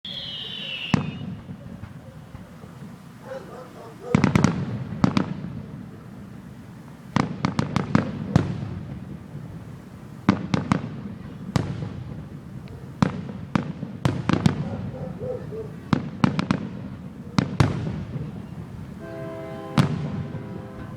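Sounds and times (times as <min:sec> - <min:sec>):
fireworks bursting with sharp bangs: 0:00.1 - 0:03.2, 0:04.0 - 0:15.0, 0:15.8 - 0:20.9.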